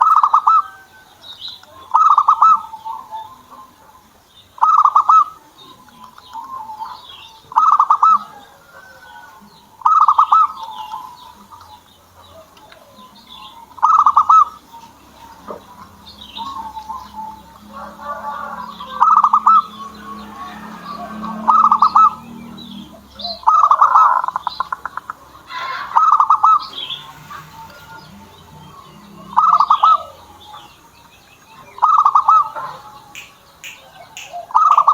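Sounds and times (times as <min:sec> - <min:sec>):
doves cooing: 0:00.0 - 0:34.9
small birds chirping: 0:00.0 - 0:34.9.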